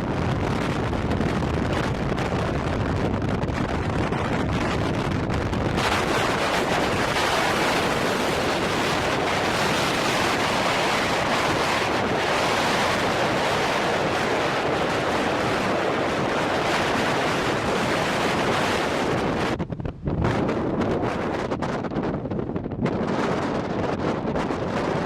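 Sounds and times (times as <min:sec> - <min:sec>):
blizzard wind rushing: 0:00.0 - 0:25.0.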